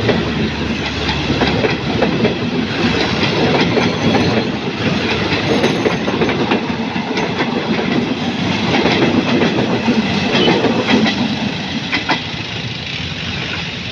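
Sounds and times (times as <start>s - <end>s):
train coaches rumbling past: 0.0s - 13.9s
wheels clicking over rail joints: 0.0s - 13.9s.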